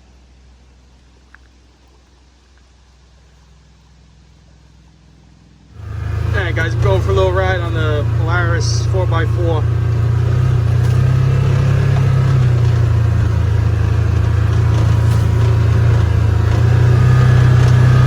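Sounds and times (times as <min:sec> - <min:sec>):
vehicle engine droning: 0:03.0 - 0:18.0.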